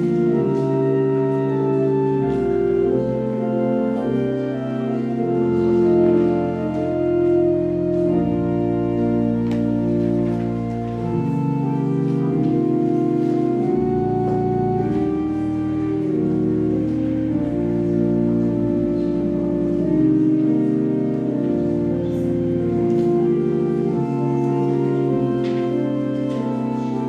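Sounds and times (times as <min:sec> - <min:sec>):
organ playing sustained chords: 0:00.0 - 0:27.0.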